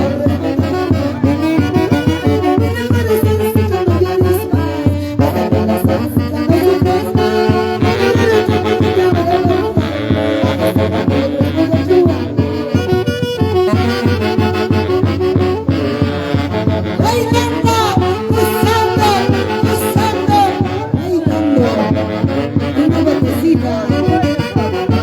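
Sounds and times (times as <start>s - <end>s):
brass band dance music: 0.0s - 25.0s.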